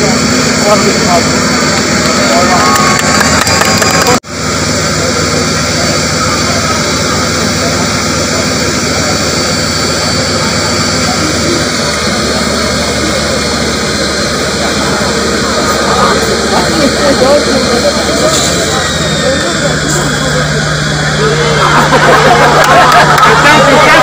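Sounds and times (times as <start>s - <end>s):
fire hose water jet roaring: 0.0s - 24.0s
pump engine hum: 0.0s - 24.0s.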